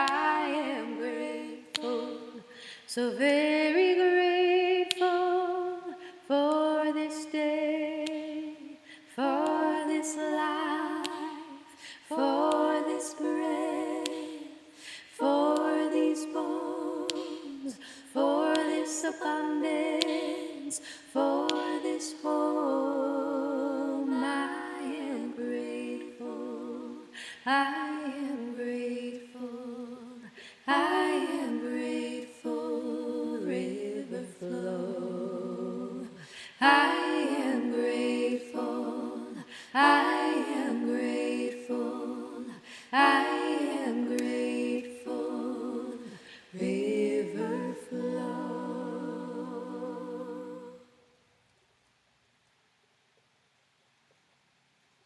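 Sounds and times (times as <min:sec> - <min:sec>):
person singing a cappella: 0:00.0 - 0:51.0.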